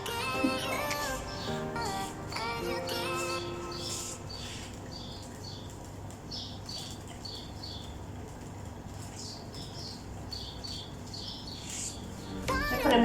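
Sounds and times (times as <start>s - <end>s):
small birds chirping: 0.8s - 13.0s.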